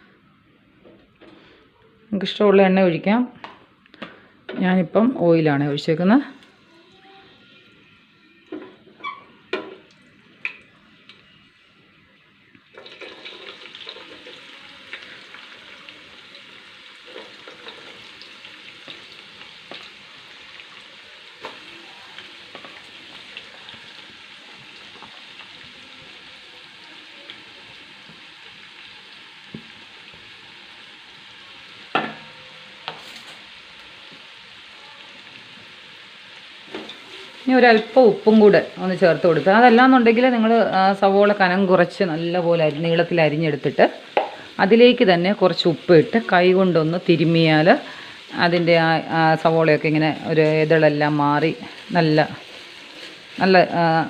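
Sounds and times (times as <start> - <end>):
onions sizzling in oil: 4.7 - 54.0.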